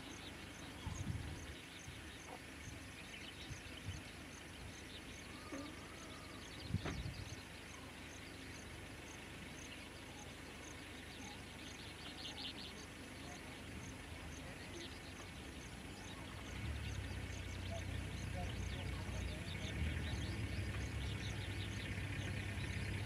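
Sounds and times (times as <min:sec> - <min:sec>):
faint bird calls: 0:00.0 - 0:08.7, 0:09.6 - 0:23.0.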